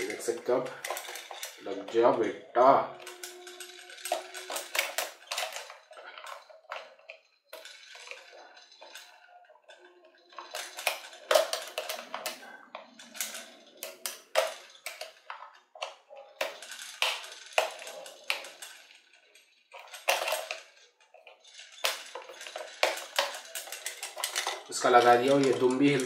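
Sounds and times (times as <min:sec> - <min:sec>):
plastic clicks and rattles: 0:00.0 - 0:26.0.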